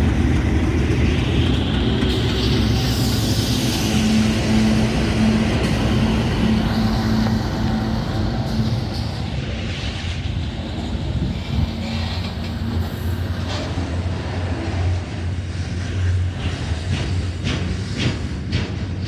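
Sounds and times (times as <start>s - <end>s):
diesel locomotive engine drone: 0.0s - 19.0s
wheels clacking over rail joints: 0.0s - 19.0s.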